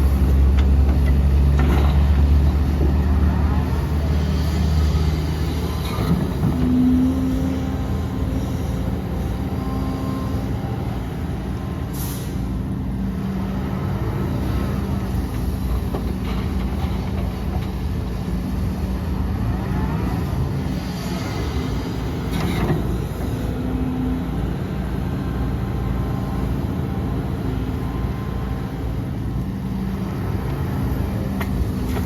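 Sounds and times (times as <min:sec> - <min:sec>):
heavy diesel machinery running: 0:00.0 - 0:32.0.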